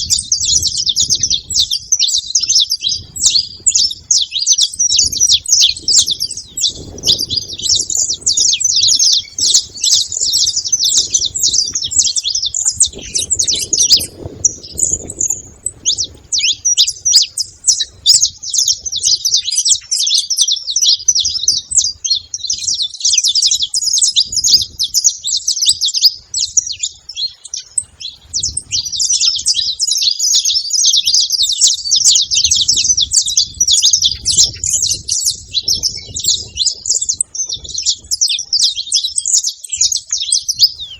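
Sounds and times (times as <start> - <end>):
finch chirping and trilling: 0.0 - 40.9.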